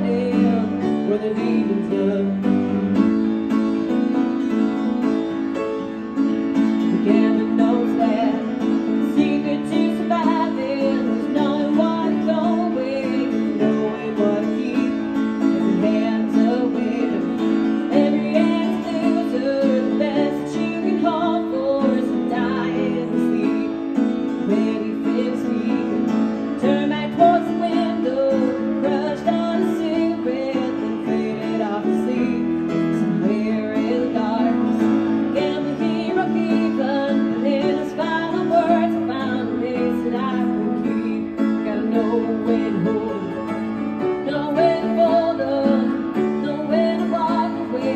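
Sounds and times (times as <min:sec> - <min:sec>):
piano chords: 0:00.0 - 0:47.9
woman singing: 0:00.0 - 0:47.9.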